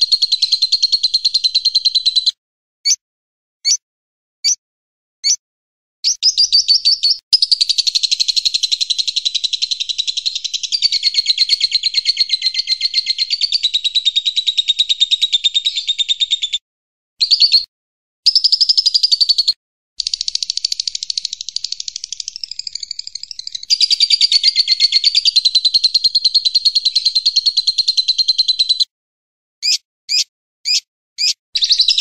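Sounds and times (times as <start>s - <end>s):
bird trilling: 0.0s - 3.0s, 6.0s - 16.6s, 17.2s - 17.7s, 18.3s - 28.9s, 29.6s - 32.0s.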